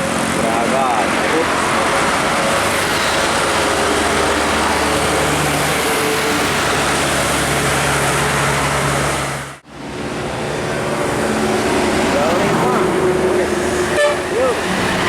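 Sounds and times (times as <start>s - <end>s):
bus passing: 0.0s - 15.0s.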